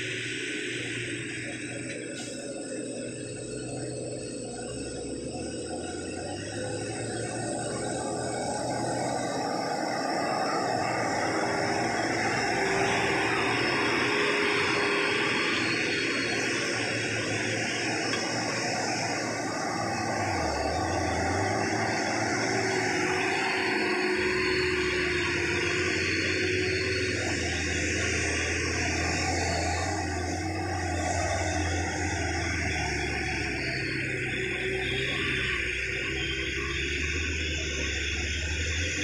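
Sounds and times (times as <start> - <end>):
engine whining tone: 0.0 - 39.0
truck diesel engines droning: 0.0 - 39.0.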